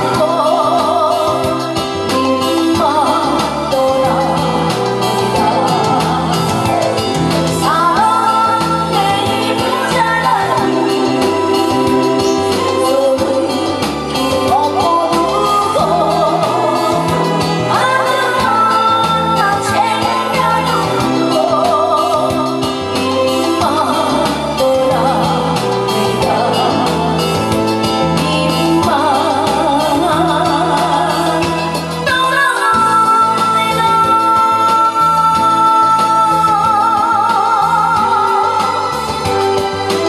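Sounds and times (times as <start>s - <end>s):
instrumental accompaniment with beat: 0.0s - 40.0s
woman singing with vibrato: 0.0s - 40.0s.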